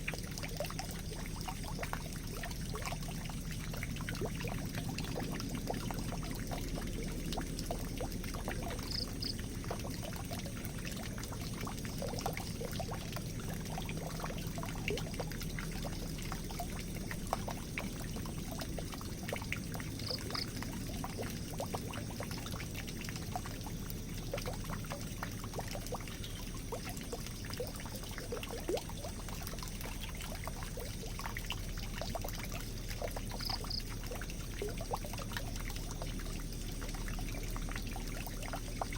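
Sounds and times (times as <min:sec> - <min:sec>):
water pouring and trickling: 0:00.0 - 0:38.9.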